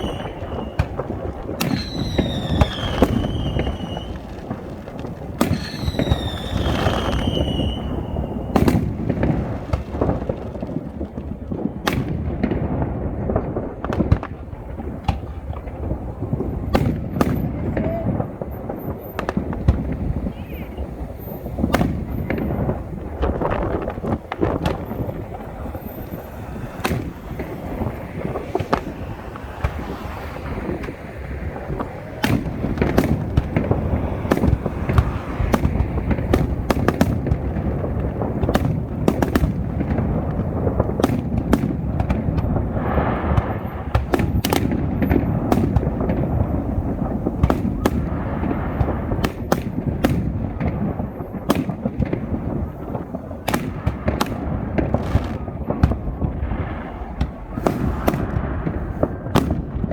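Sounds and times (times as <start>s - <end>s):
fireworks cracks and bangs: 0.0s - 59.9s.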